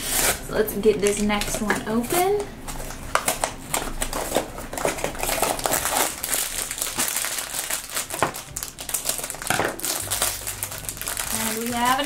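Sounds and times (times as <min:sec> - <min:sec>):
foil bag crinkling: 0:01.0 - 0:12.0.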